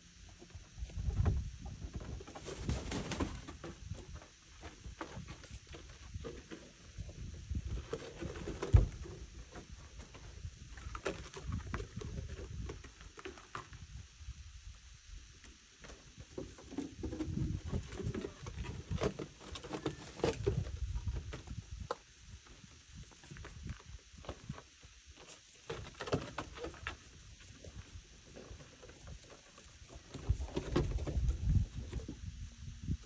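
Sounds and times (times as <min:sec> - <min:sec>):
birds pecking and stepping: 0:00.3 - 0:14.4, 0:15.1 - 0:33.0.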